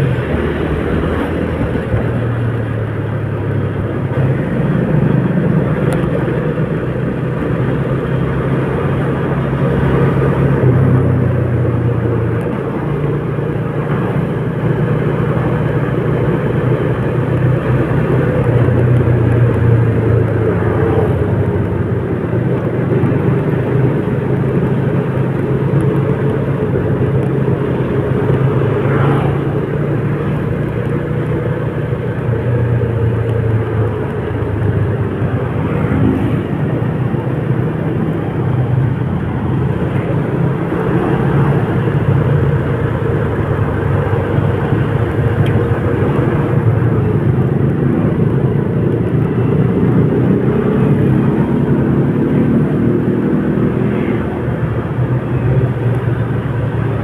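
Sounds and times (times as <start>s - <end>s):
vehicle engine hum and road noise: 0.0s - 57.0s.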